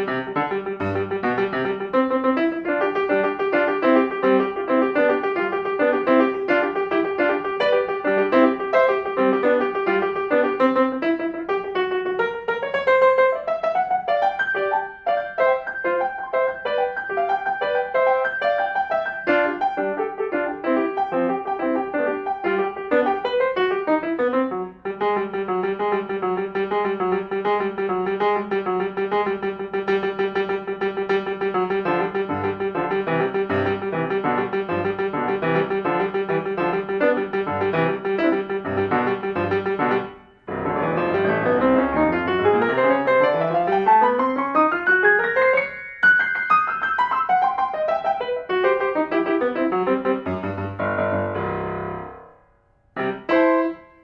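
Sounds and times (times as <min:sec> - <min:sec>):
solo piano playing: 0:00.0 - 0:54.0.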